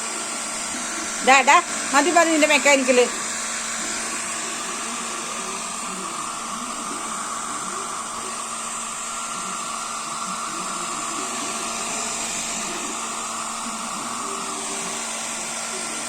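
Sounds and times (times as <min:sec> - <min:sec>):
heater fan whir: 0:00.0 - 0:16.0.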